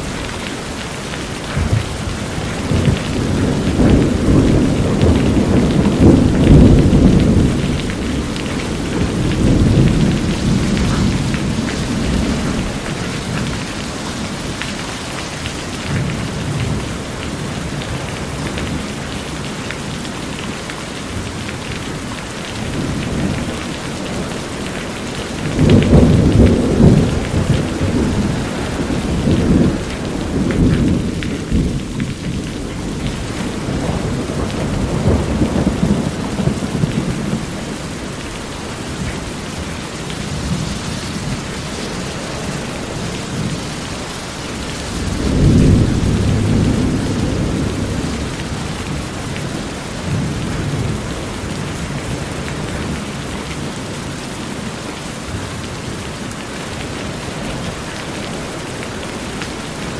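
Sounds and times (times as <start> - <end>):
thunder rumbling: 0.0 - 20.5, 21.1 - 54.2
rain on a metal roof: 0.0 - 59.9.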